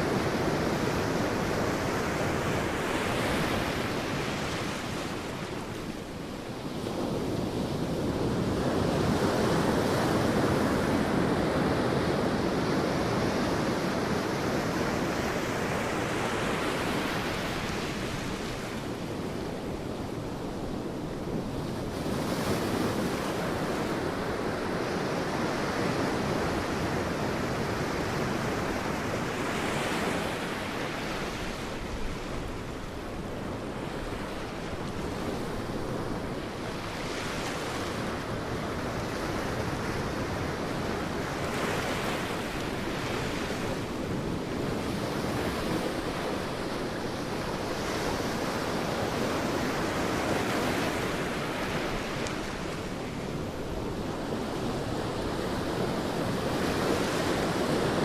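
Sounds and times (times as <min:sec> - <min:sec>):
waves breaking on beach: 0:00.0 - 0:58.0
wind: 0:00.0 - 0:58.0.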